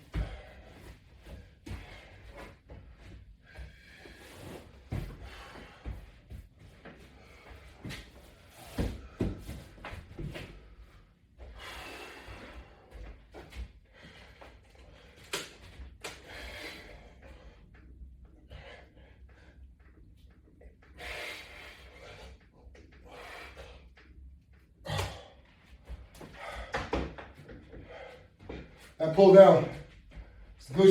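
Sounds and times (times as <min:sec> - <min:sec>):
person breathing hard: 0:00.0 - 0:06.4, 0:07.0 - 0:19.7, 0:20.8 - 0:24.1, 0:24.8 - 0:28.7.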